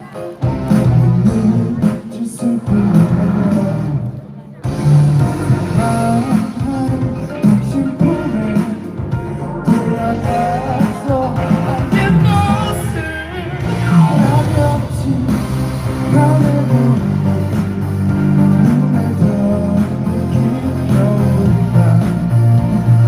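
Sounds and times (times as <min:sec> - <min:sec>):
live rock band playing: 0:00.0 - 0:04.0, 0:04.6 - 0:23.0.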